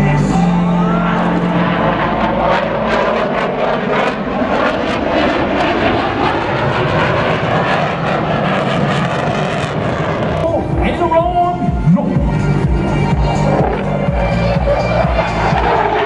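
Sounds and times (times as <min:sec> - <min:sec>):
fighter jet engines roaring: 0:00.0 - 0:16.0.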